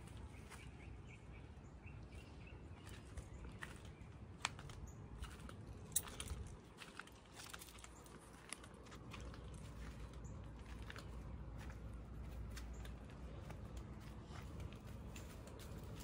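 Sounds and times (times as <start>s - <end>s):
footsteps on gravel: 2.7s - 16.0s.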